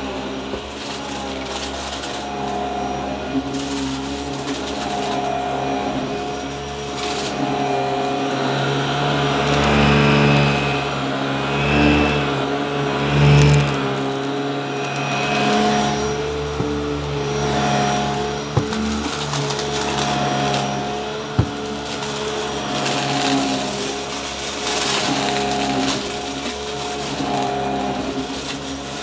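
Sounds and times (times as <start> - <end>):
debris crackling in vacuum: 0.0 - 29.0
vacuum cleaner motor whine: 0.0 - 29.0.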